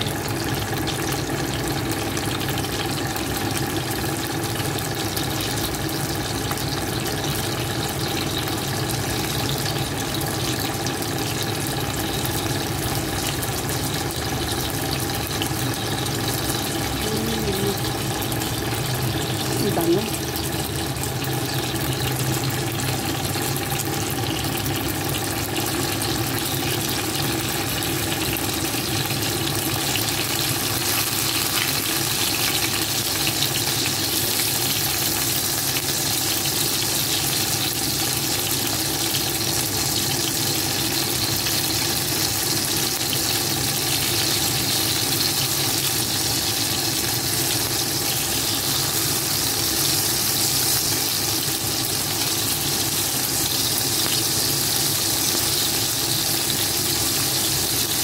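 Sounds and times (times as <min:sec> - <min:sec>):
eggplant sizzling in hot oil: 0:00.0 - 0:58.0.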